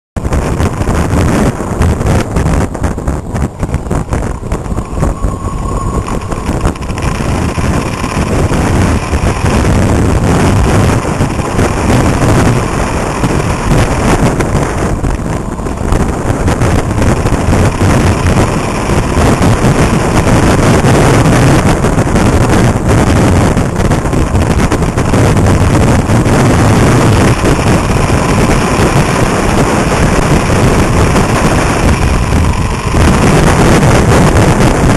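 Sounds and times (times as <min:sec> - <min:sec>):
wind buffeting microphone: 0:00.2 - 0:34.9
moped engine: 0:00.4 - 0:34.9.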